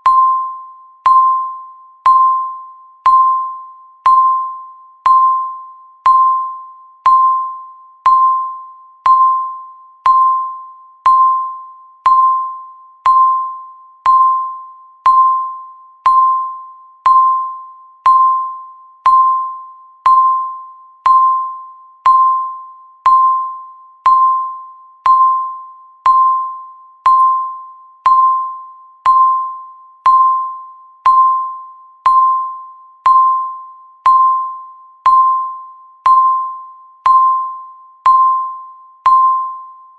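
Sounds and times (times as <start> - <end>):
countdown timer ticking pings: 0.0 - 39.9.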